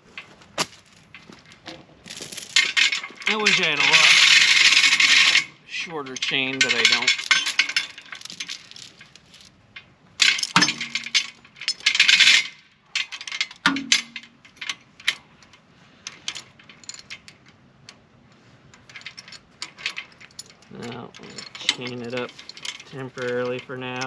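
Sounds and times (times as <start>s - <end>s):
metal chain clinking and rattling: 0.0s - 17.6s, 18.6s - 24.0s.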